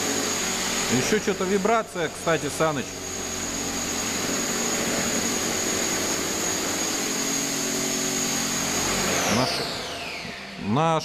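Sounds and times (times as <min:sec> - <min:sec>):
model helicopter whining: 0:00.0 - 0:11.0.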